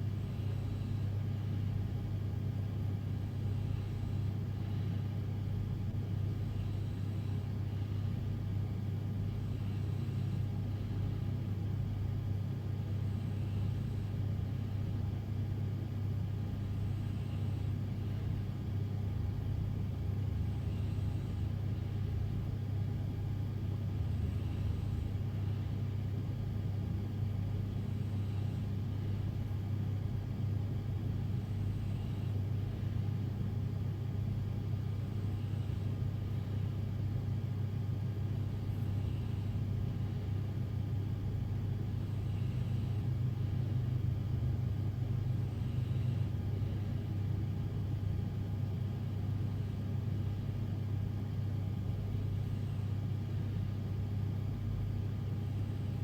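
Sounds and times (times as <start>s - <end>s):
faint breaths of sleeping person: 0.0s - 56.0s.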